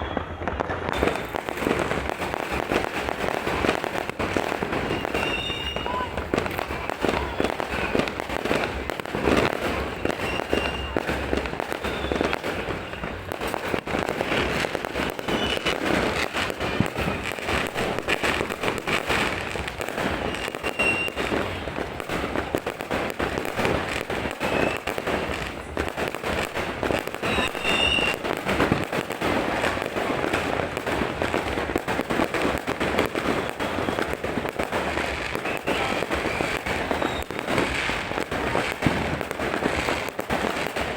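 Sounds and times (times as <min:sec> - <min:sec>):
firework whistles: 0:00.0 - 0:31.1, 0:31.7 - 0:40.9
fireworks banging and crackling: 0:00.0 - 0:40.9.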